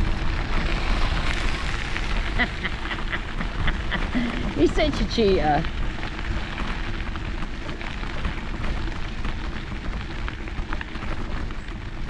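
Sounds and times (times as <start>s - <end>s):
bicycle tyres crunching on gravel: 0.0s - 12.0s
wind rumbling on microphone: 0.0s - 12.0s.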